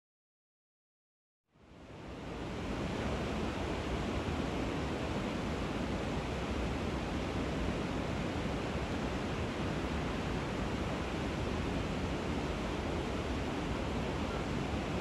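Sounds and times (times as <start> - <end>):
water rushing over weir: 2.2 - 15.0.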